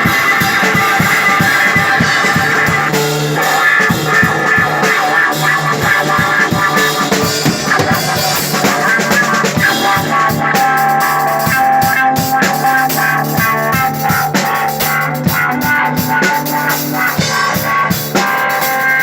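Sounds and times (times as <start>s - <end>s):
drum kit beat: 0.0s - 19.0s
electric guitar: 0.0s - 19.0s.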